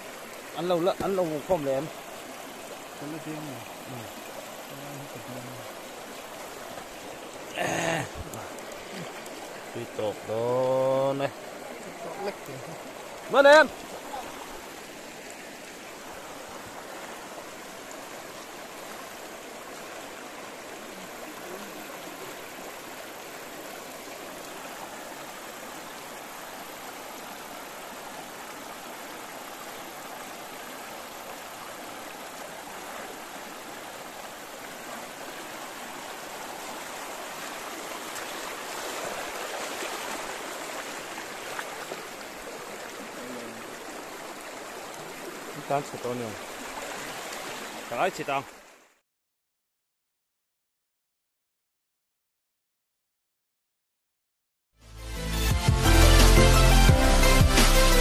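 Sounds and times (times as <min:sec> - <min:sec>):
river flowing: 0:00.0 - 0:49.0, 0:55.1 - 0:58.0.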